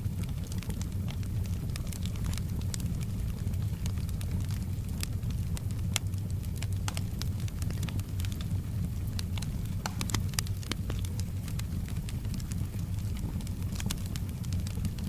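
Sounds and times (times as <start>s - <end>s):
soft rain: 0.0s - 15.0s
wood fire crackling: 0.0s - 15.0s.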